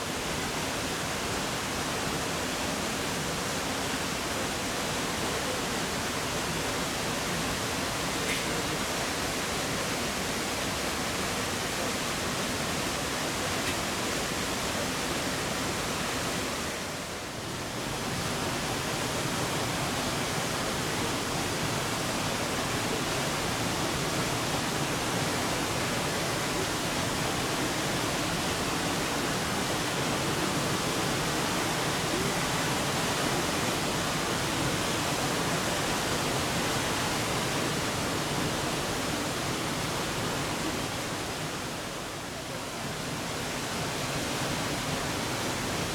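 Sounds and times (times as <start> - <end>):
waterfall rushing over rocks: 0.0 - 45.9.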